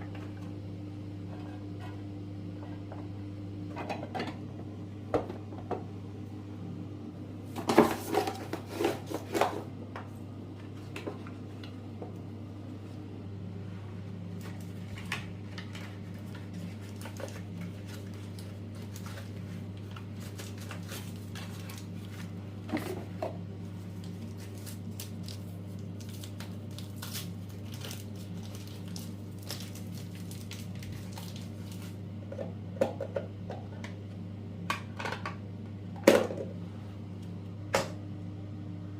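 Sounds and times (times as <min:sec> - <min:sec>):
kitchen appliance humming: 0:00.0 - 0:38.9.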